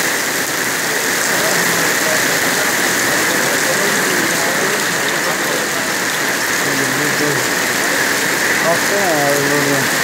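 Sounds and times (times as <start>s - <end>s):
heavy rain on street and vehicles: 0.0s - 10.0s.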